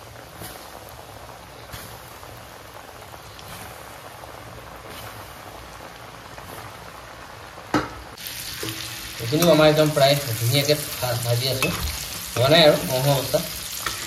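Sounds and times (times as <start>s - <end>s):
hot oil sizzling and bubbling: 0.0s - 14.0s.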